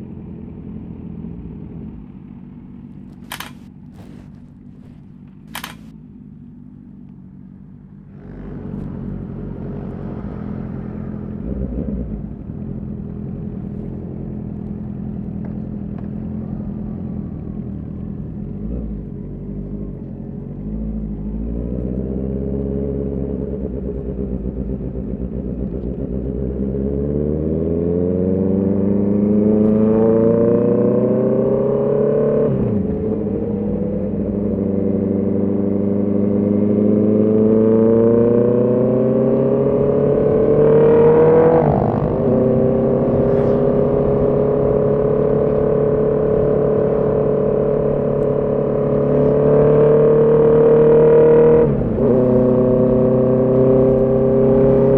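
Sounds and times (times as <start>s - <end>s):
motorcycle engine shifting up: 1.0s - 26.9s, 32.6s - 54.9s.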